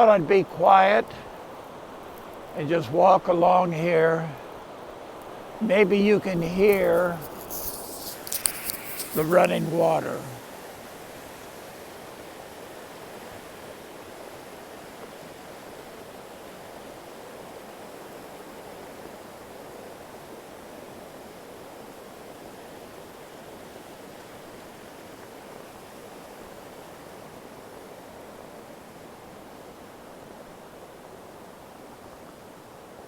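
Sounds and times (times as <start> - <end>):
creek water rushing over rocks: 0.0 - 31.5.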